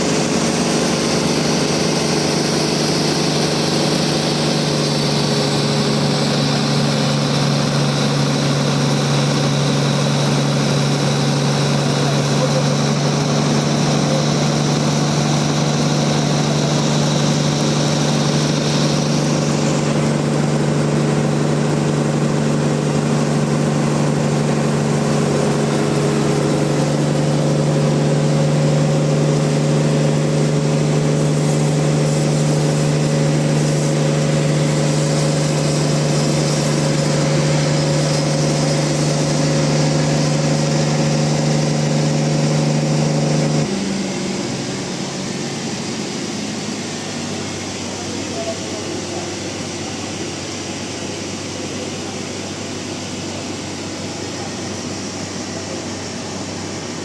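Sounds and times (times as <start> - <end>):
high-pitched saw whine: 0.0 - 51.9
sawmill low hum: 0.0 - 57.0.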